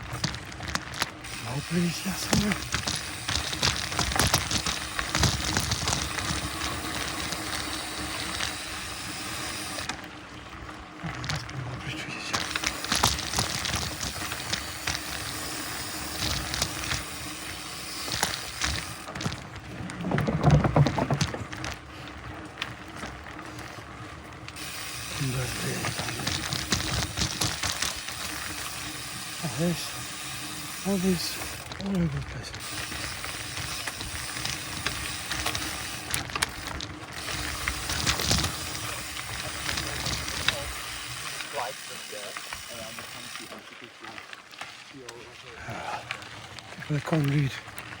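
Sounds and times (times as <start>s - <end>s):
bike rattling and knocking: 0.0s - 48.0s
bike tyres rolling on dirt: 0.0s - 48.0s.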